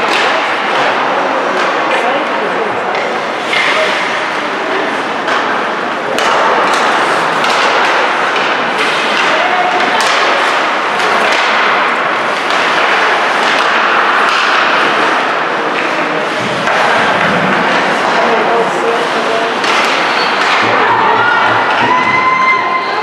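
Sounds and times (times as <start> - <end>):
skates and crowd rushing: 0.0 - 23.0
sticks and puck clacking: 0.0 - 23.0.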